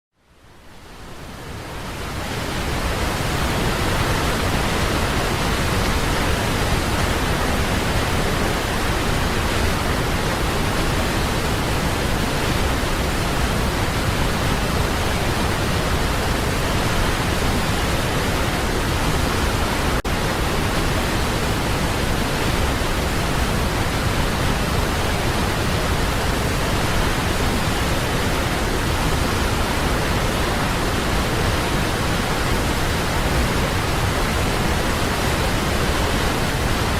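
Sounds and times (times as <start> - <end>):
waterfall roaring: 0.4 - 36.9.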